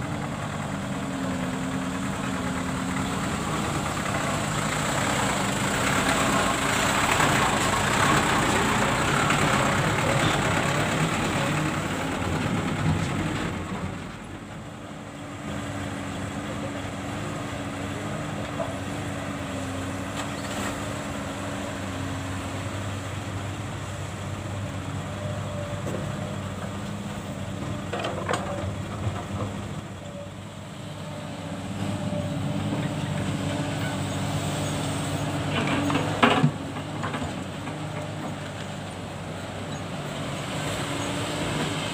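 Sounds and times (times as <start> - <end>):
dump truck diesel engine running: 0.0 - 41.9
excavator engine humming: 0.0 - 41.9.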